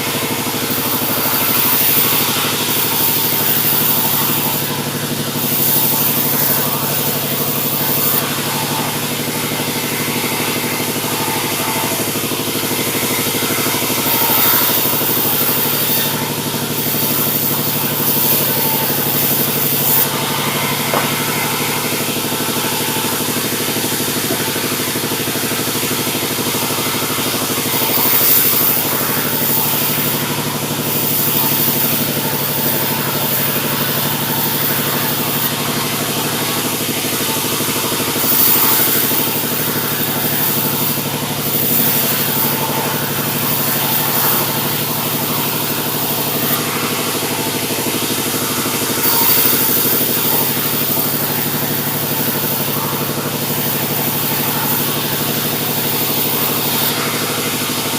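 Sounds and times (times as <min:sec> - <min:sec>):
saw cutting hiss: 0:00.0 - 0:57.9
sawmill engine drone: 0:00.0 - 0:57.9.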